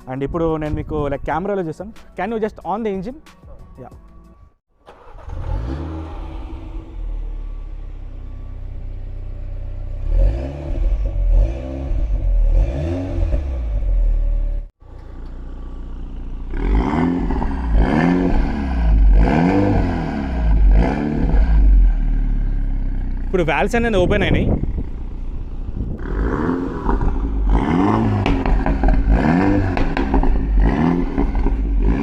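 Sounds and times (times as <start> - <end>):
car engine idling and revving: 4.8 - 32.0.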